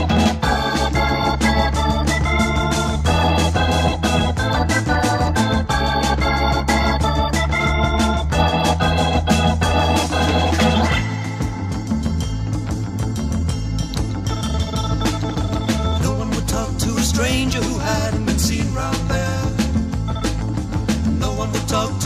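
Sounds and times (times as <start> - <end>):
bass guitar: 0.0 - 22.0
steady drum beat: 0.0 - 22.0
sustained organ chords: 0.0 - 22.0.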